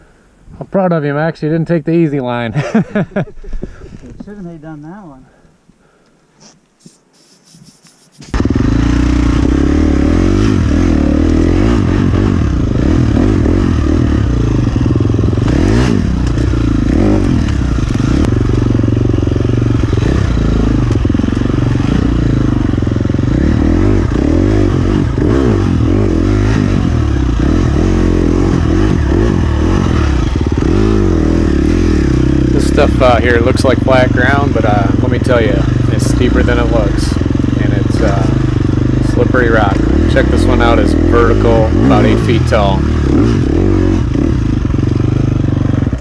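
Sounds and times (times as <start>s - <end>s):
dirt bike engine revving: 8.3s - 46.0s.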